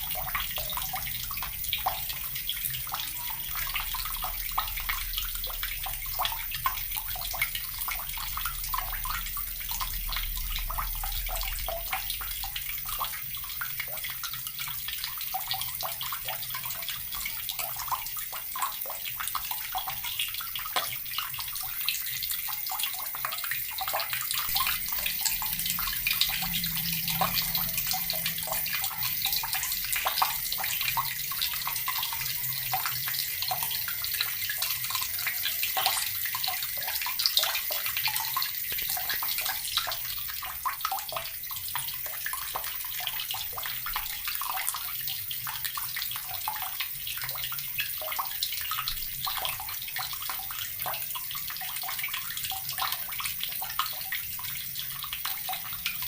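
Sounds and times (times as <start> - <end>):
water tap running: 0.0 - 56.0.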